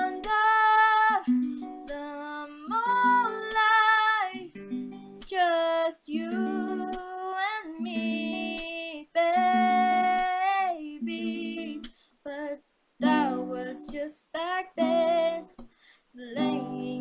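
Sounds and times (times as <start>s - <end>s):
girl singing pop ballad: 0.0s - 4.6s, 5.2s - 15.6s, 16.2s - 17.0s
guitar accompaniment: 0.0s - 5.5s, 6.2s - 11.9s, 13.0s - 15.6s, 16.2s - 17.0s.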